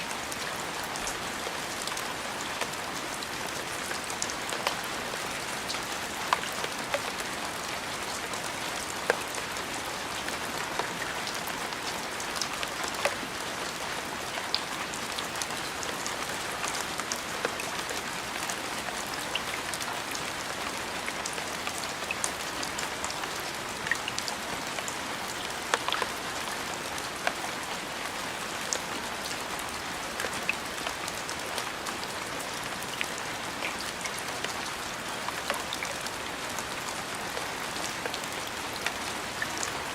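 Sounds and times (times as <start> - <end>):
steady rain falling: 0.0 - 39.9
raindrops ticking on hard surface: 0.1 - 39.9.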